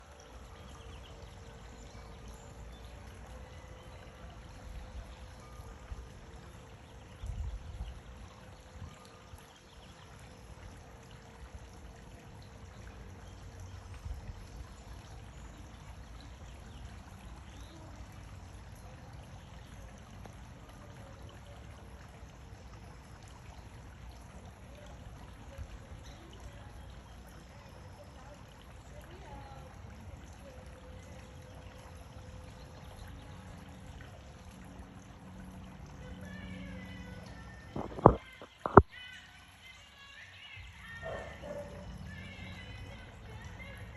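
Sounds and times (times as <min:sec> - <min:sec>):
water trickling: 0:00.0 - 0:43.9.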